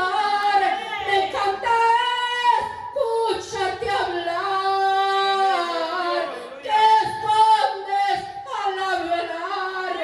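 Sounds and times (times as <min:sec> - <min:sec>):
woman singing into a microphone: 0:00.0 - 0:10.0.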